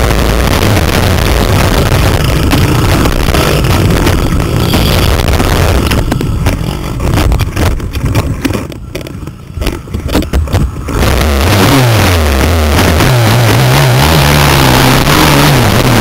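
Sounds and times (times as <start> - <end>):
small motorcycle engine: 0.0 - 16.0
wind noise: 0.0 - 16.0
knocks rattles and scrapes: 0.5 - 16.0.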